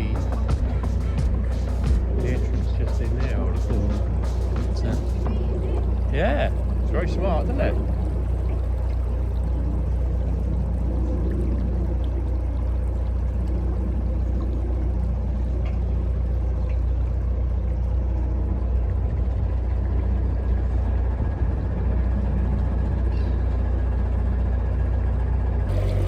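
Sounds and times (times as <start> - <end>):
boat diesel engine humming: 0.0 - 26.0.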